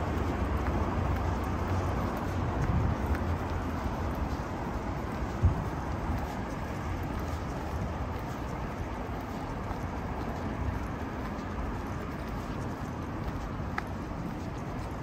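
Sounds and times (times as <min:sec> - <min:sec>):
city background rumble: 0:00.0 - 0:15.0.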